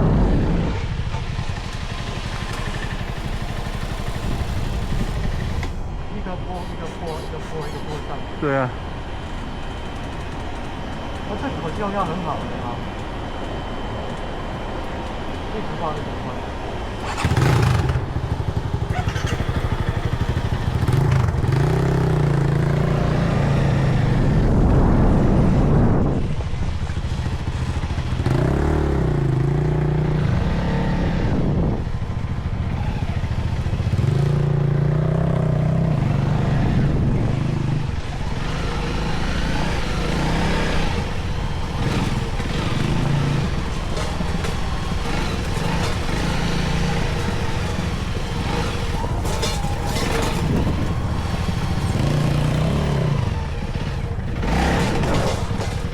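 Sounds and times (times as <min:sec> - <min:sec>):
motorcycle engine revving: 0:00.0 - 0:13.8, 0:16.6 - 0:55.9.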